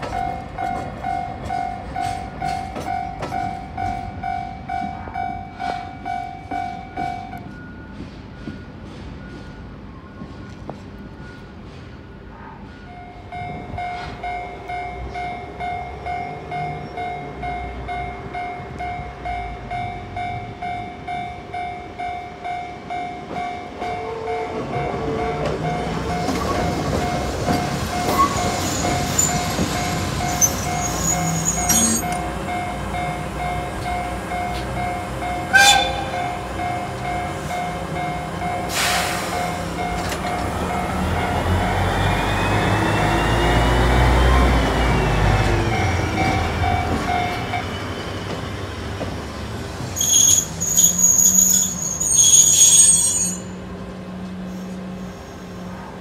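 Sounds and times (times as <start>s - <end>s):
diesel locomotive passing: 0.0s - 56.0s.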